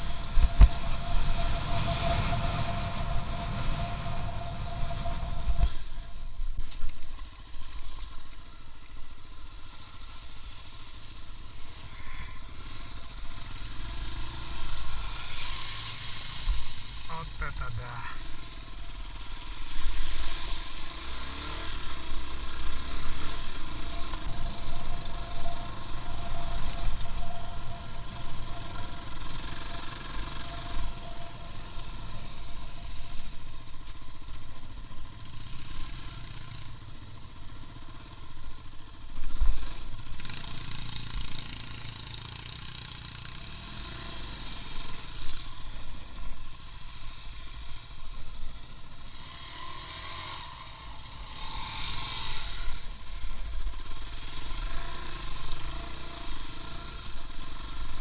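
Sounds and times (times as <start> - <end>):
road noise: 0.0 - 58.0
vehicle engine rumble: 0.0 - 58.0.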